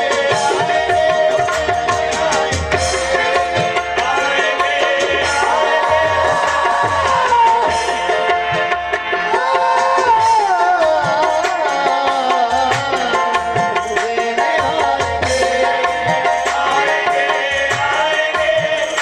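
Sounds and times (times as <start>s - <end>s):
harmonium melody: 0.0s - 19.0s.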